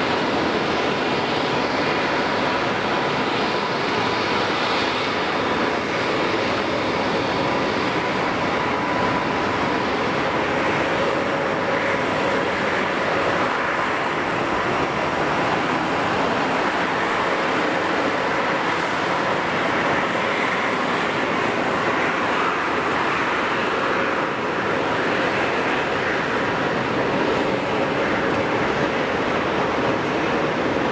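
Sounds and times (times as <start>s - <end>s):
jet engine rush with whine: 0.0s - 30.9s.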